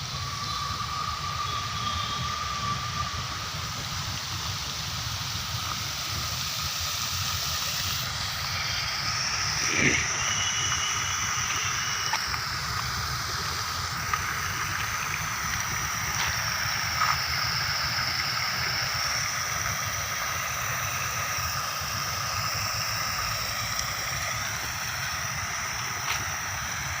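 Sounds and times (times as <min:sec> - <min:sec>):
fountain water splashing: 0:02.2 - 0:27.0.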